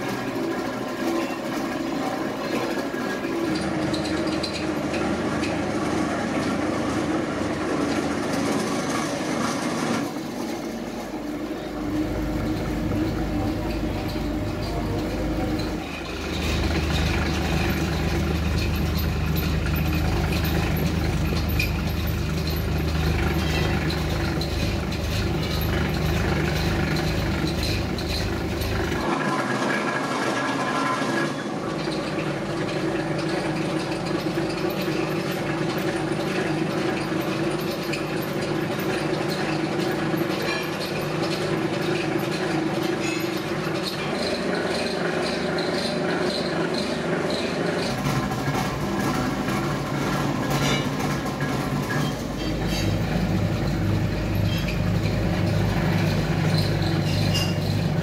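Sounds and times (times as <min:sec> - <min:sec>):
mixing mill clatter and rattle: 0:00.0 - 0:58.0.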